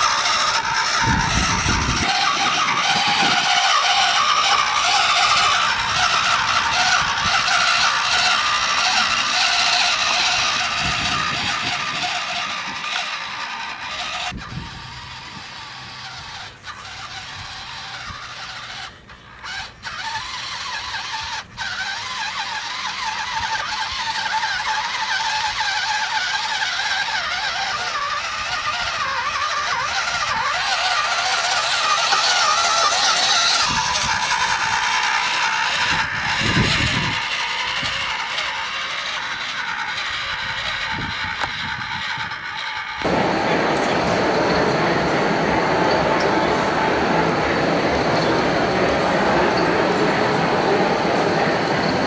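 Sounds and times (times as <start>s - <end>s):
toy tractor motor whining: 0.0s - 52.0s.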